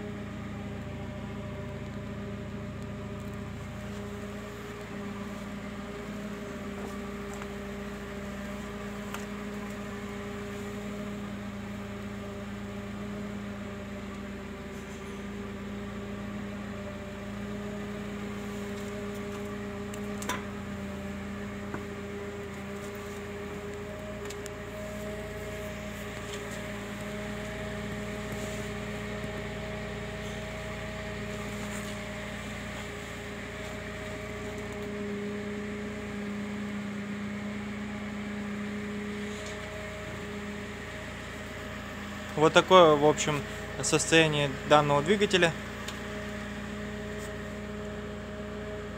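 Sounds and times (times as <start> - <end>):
steady machine hum: 0.0 - 48.9.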